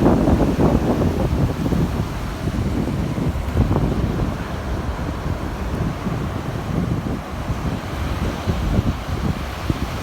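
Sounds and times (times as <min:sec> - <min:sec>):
beach surf: 0:00.0 - 0:10.0
wind on microphone: 0:00.0 - 0:10.0.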